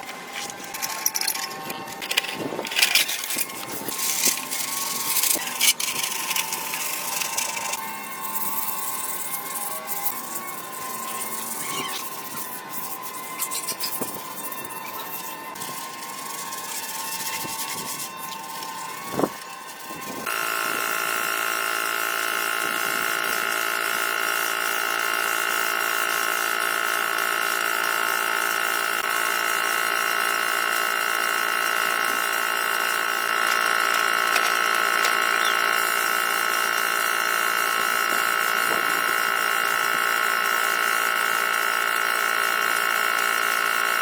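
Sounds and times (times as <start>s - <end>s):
electric motor high-pitched whine: 0.0s - 44.0s.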